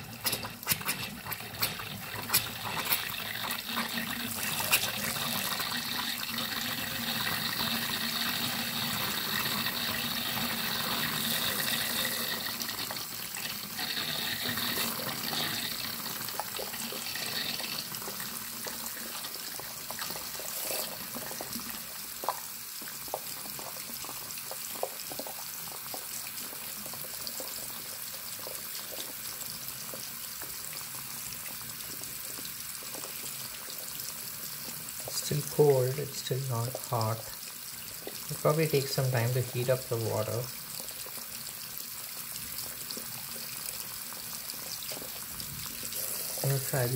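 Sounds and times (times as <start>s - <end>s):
water running from faucet: 0.0s - 46.9s.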